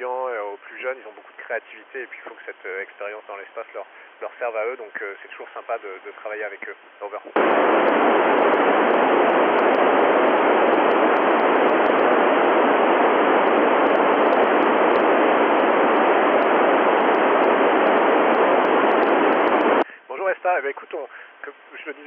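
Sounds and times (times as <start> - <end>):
radio receiver hiss: 0.0 - 22.0.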